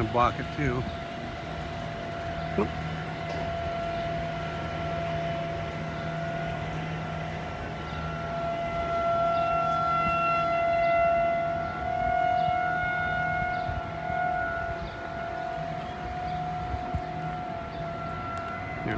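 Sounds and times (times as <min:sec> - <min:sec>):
warning siren steady tone: 0:00.0 - 0:18.9.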